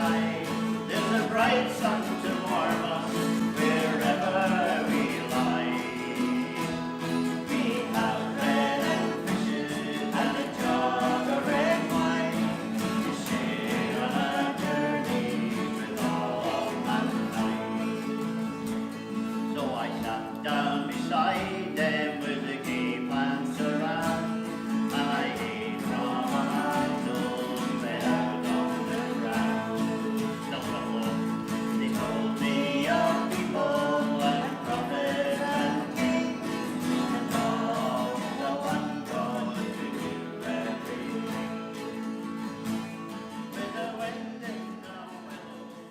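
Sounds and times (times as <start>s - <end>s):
acoustic guitar strumming: 0.0s - 45.9s
people singing: 0.0s - 45.9s.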